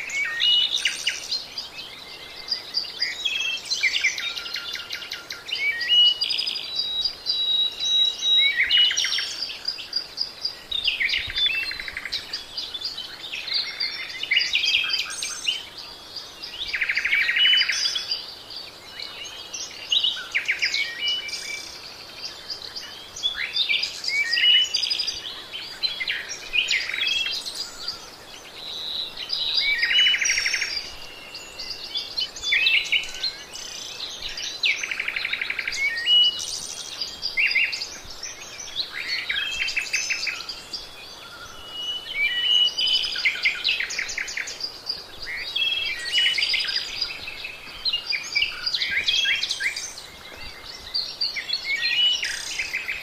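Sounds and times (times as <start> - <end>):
birds singing chirps and trills: 0.0 - 53.0.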